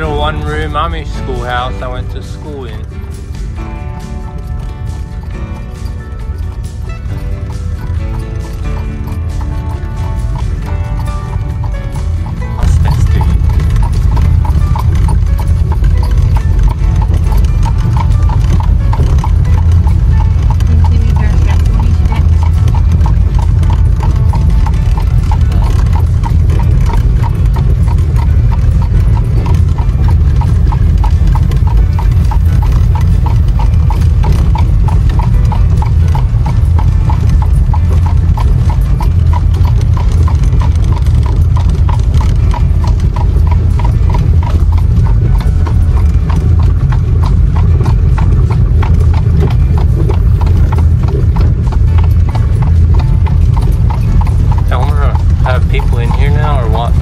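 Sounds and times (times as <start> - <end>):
hooves trotting on asphalt: 0.0 - 57.0
low steady rumble: 0.0 - 57.0.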